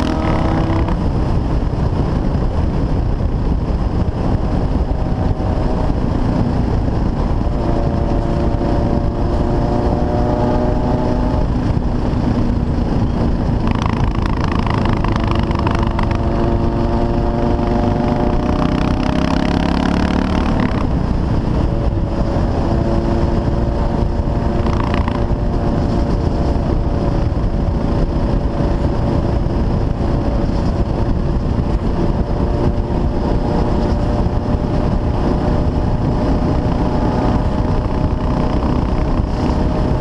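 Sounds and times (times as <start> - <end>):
motorcycle engine cruising: 0.0 - 40.0
wind rushing over microphone: 0.0 - 40.0.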